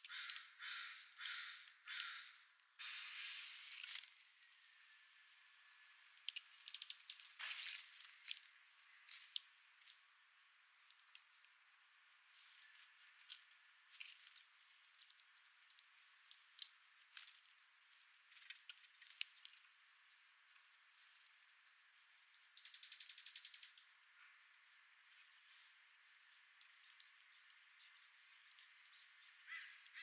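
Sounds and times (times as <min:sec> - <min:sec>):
birds pecking at seed feeder: 0:00.0 - 0:05.0, 0:06.0 - 0:30.0.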